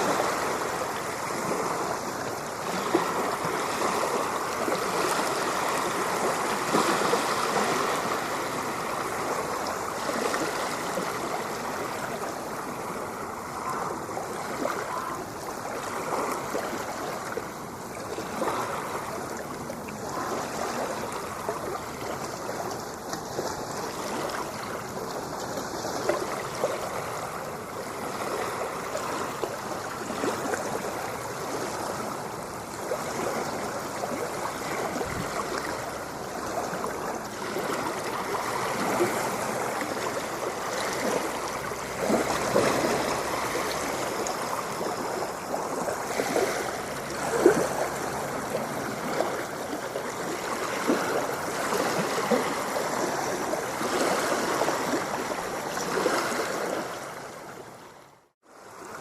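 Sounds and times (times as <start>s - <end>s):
ocean surf breaking: 0.0s - 57.7s.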